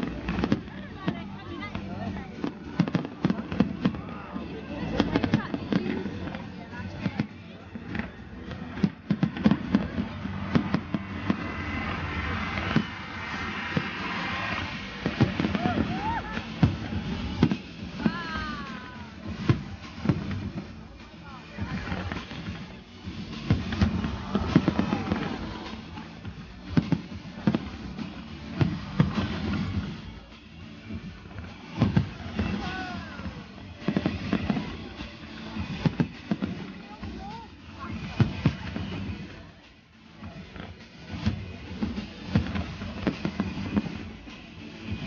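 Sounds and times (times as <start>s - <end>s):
fireworks bursting with sharp bangs: 0.0s - 45.0s.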